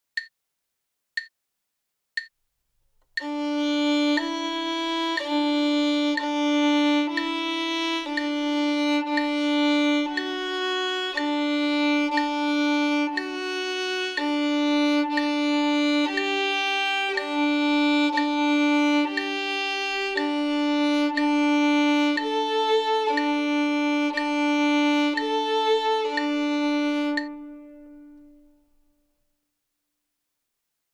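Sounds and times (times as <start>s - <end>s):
solo violin bowed notes: 3.2s - 28.6s.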